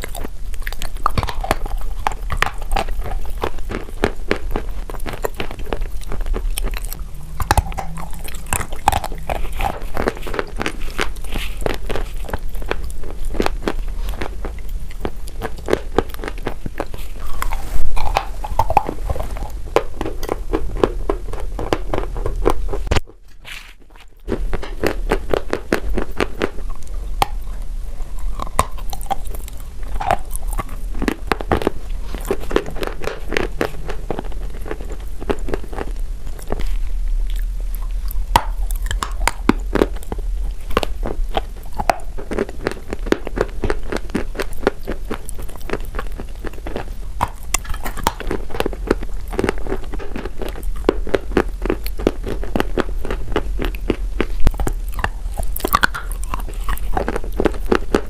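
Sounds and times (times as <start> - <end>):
chalk crunching in mouth: 0.0 - 58.0.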